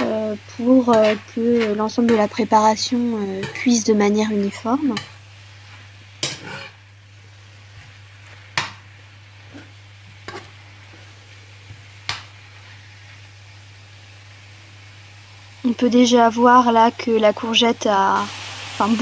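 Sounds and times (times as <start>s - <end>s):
faint sizzle: 0.0s - 19.0s.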